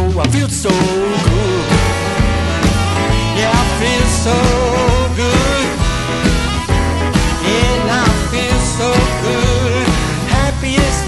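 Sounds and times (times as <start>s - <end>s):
guitar: 0.0s - 11.0s
upright bass: 0.0s - 11.0s
harmonica bending notes: 0.8s - 11.0s.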